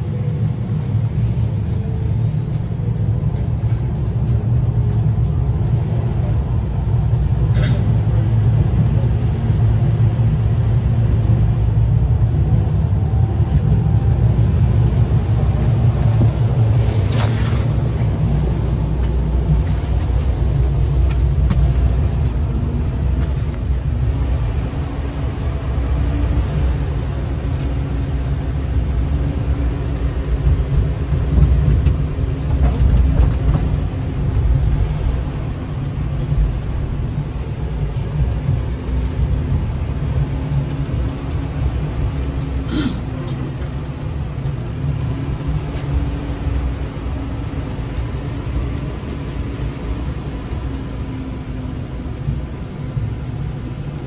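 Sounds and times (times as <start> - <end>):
tram wheels rumbling: 0.0 - 54.0.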